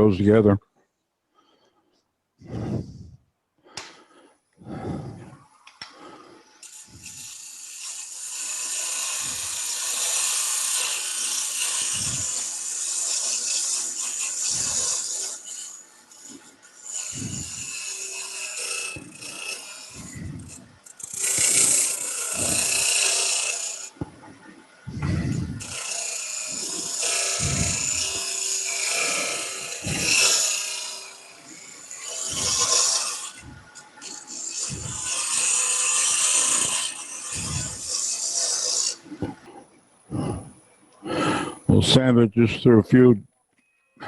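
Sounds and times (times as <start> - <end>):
turning tool scraping wood: 1.4 - 42.2
wood lathe running: 3.8 - 39.5.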